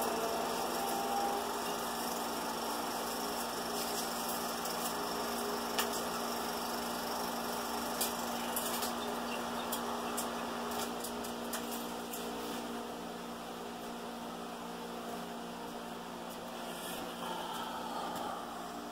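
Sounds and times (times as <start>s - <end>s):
electrical hum and hiss: 0.0s - 18.9s.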